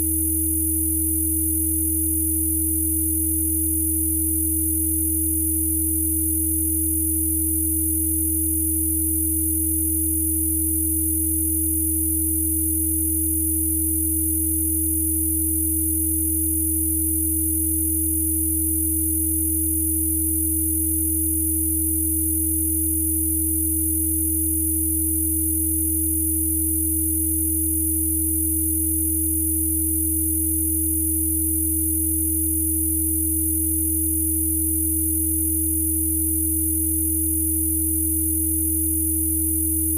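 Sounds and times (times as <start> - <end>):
steady sine tones: 0.0 - 39.9.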